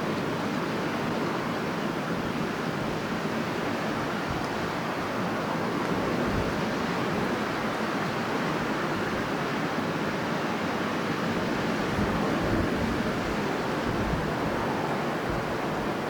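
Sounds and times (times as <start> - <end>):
strong wind blowing: 2.0 - 16.0.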